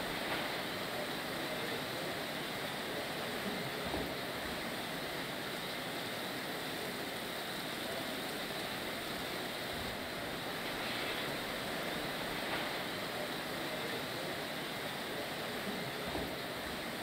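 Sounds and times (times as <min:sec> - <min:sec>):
steady rushing noise: 0:00.0 - 0:06.0, 0:06.6 - 0:17.0.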